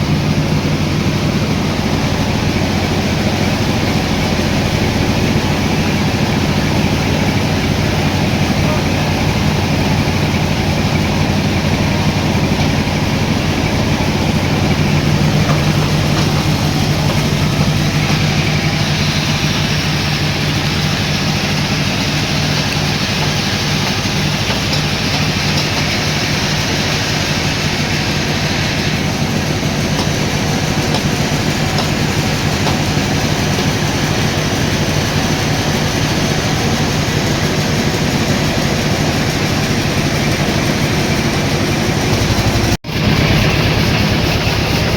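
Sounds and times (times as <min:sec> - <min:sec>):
sawmill machinery running: 0:00.0 - 0:44.9.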